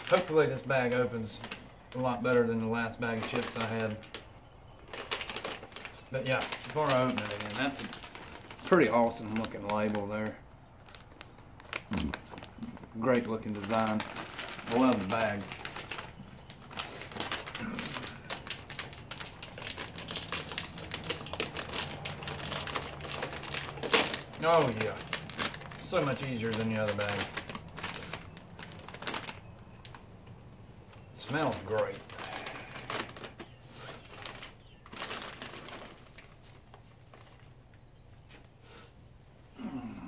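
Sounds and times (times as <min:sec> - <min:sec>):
snack bag crinkling: 0:00.0 - 0:30.1, 0:31.0 - 0:37.5.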